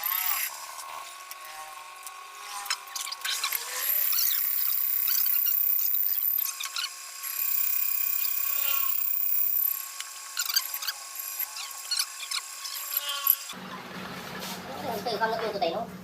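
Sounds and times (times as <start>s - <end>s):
power tool whining: 0.0s - 13.6s.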